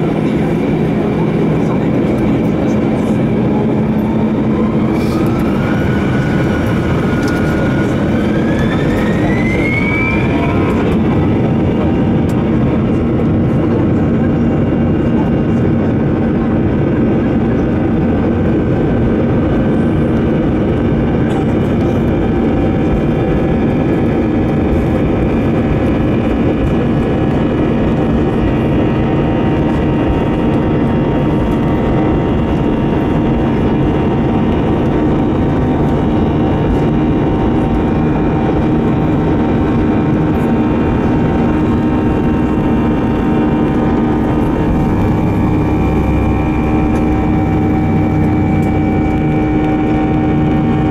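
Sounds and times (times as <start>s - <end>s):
jet engines rumbling and whining: 0.0s - 50.9s.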